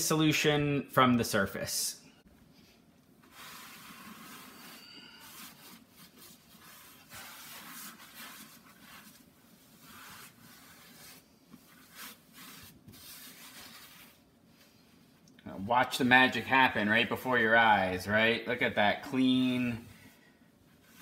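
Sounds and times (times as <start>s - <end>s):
paper towel wiping glass: 3.2s - 15.2s, 15.9s - 21.0s.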